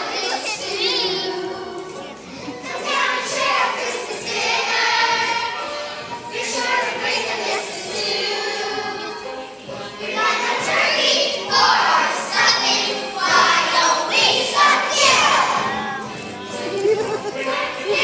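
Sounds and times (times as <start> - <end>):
children's choir singing: 0.0 - 18.0
musical accompaniment: 0.0 - 18.0.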